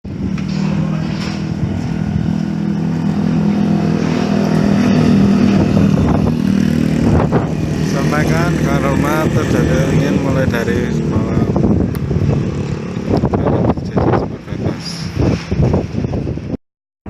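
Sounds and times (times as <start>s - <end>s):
noisy rushing haze: 0.1s - 15.4s.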